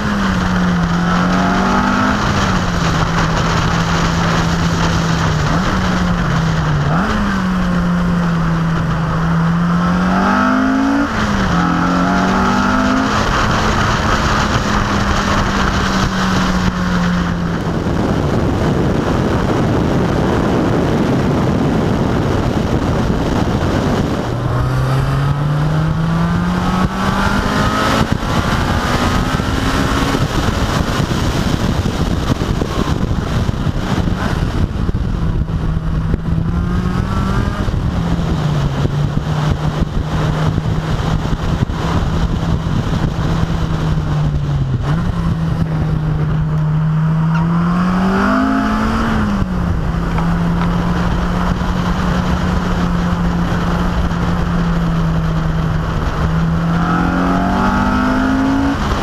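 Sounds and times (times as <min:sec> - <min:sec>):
car engine pulling: 0:00.0 - 0:59.0
wind on microphone: 0:00.0 - 0:59.0.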